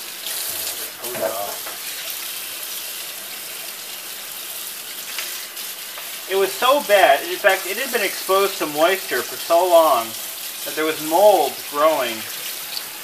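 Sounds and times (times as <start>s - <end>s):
faucet water splashing on plastic: 0.0s - 13.0s.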